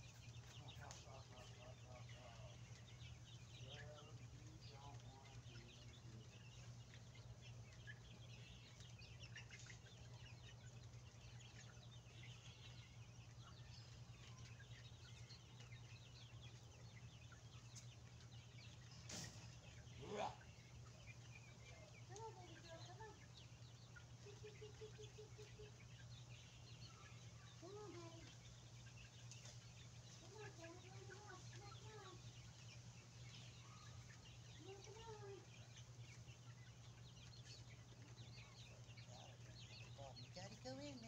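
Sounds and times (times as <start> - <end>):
hens peeping and clucking: 0.0 - 41.0.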